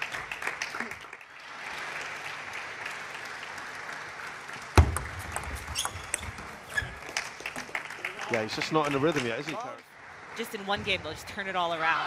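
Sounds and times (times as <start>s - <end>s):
spectators applauding: 0.0s - 9.9s.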